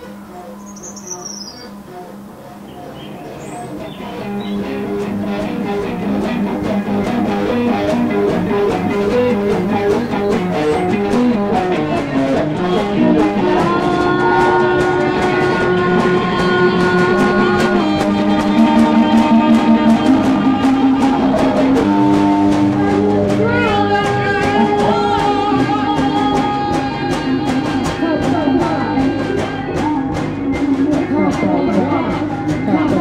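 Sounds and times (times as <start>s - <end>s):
band music led by guitar: 0.0s - 33.0s
light drums: 0.0s - 33.0s.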